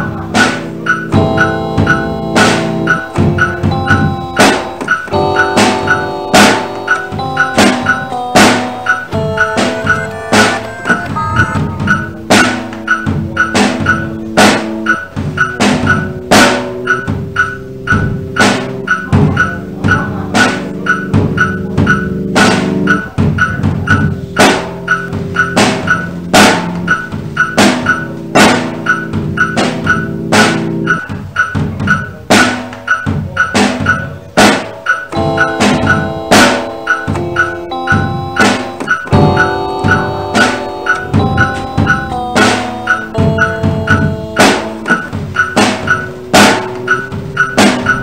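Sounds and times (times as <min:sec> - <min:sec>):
electronic hip-hop beat: 0:00.0 - 0:48.0
keyboard notes: 0:00.0 - 0:48.0.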